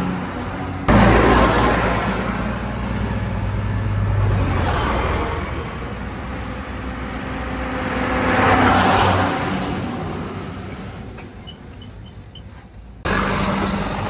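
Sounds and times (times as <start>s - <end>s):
rushing noise: 0.0s - 11.3s
diesel engine running: 0.0s - 14.0s.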